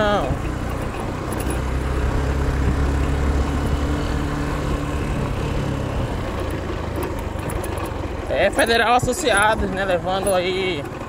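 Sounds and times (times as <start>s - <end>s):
tyre rumble on dirt road: 0.0s - 11.0s
vehicle engine running steadily: 0.0s - 11.0s.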